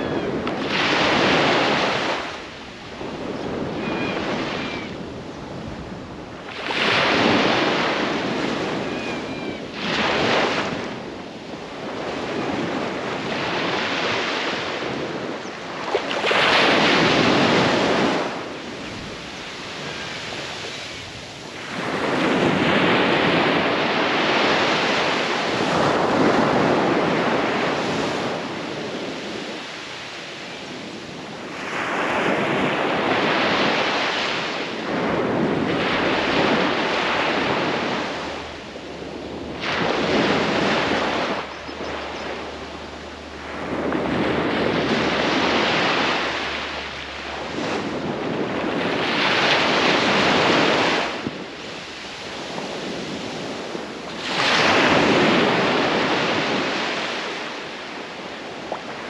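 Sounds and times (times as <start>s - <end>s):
small waves breaking on shore: 0.0s - 59.0s.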